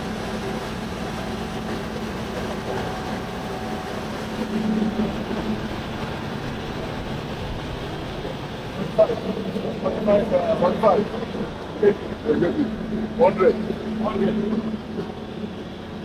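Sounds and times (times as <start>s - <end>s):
machinery droning: 0.0s - 16.0s.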